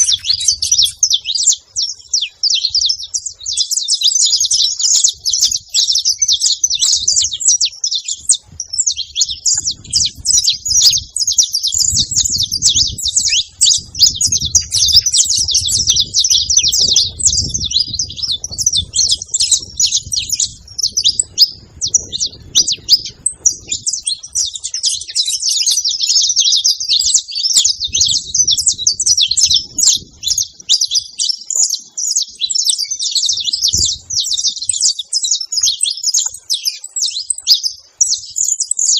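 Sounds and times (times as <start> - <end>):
finches chirping and singing: 0.0 - 38.9.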